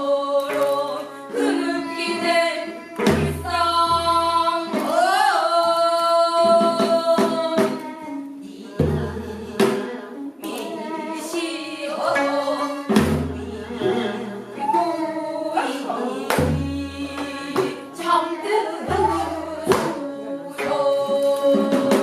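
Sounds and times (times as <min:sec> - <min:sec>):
traditional singing with instruments: 0:00.0 - 0:22.0.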